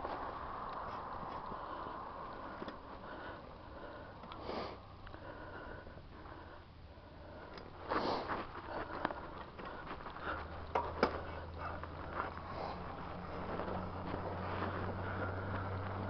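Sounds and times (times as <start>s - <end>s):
faint low hum: 0.0s - 16.0s
sharp breaths: 0.0s - 16.0s.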